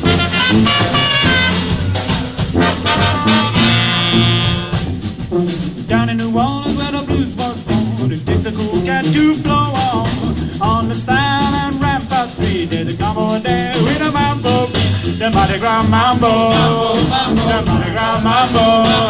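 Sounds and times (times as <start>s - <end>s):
brass band playing upbeat tune: 0.0s - 19.0s
drums keeping steady beat: 0.0s - 19.0s.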